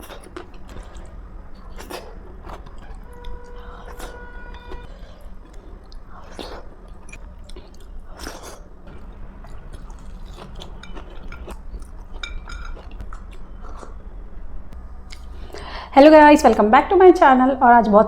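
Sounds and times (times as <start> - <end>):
person chewing: 0.0 - 14.4, 15.0 - 15.8
low hum: 0.0 - 18.0.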